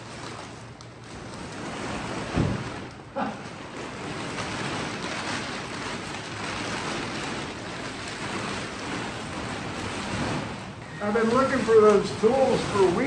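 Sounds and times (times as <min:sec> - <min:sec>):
tarp rustling and crinkling: 0:00.0 - 0:13.0.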